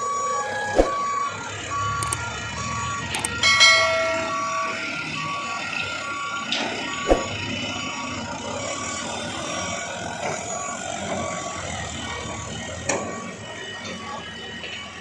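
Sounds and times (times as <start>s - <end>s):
heavy vehicle engine running: 0.0s - 15.0s
reversing alarm beeping: 0.0s - 15.0s.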